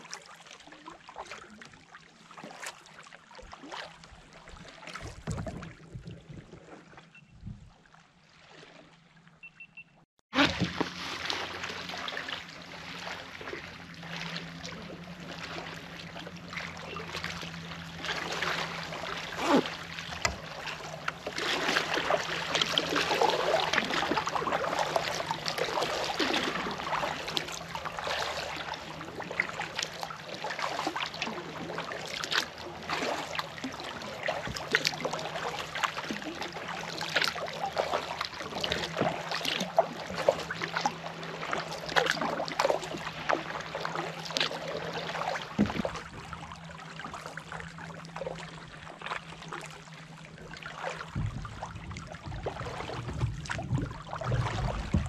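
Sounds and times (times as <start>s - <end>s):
paddle splashing through water: 0.0s - 9.0s, 10.3s - 55.0s.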